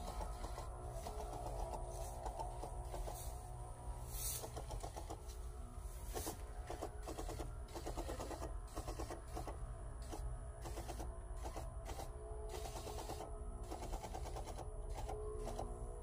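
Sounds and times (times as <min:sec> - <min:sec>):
rapid ticking pulses: 0:00.0 - 0:05.4, 0:06.2 - 0:15.8
sprayer pump motor humming: 0:00.0 - 0:16.0.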